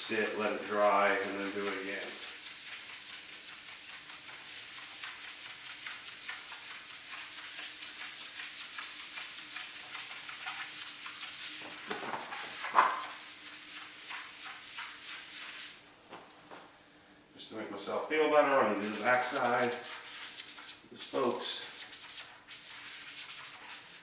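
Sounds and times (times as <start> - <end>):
sponge rubbing on wheel: 0.1 - 11.8, 12.4 - 15.8, 18.5 - 24.0.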